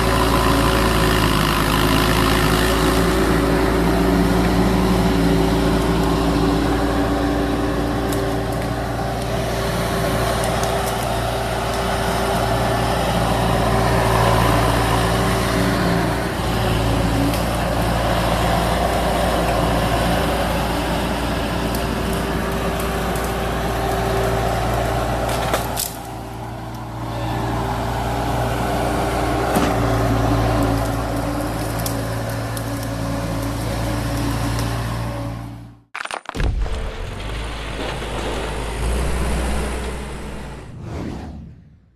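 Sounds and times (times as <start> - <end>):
loader diesel engine running: 0.0 - 35.9, 36.6 - 40.8.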